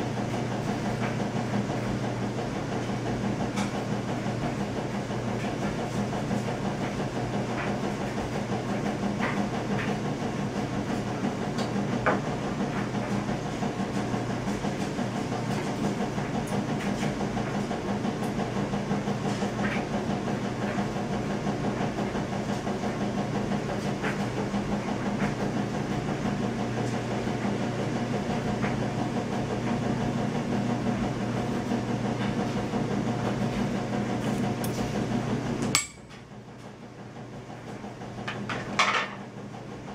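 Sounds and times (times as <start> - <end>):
mechanical hum with hiss: 0.0 - 39.9.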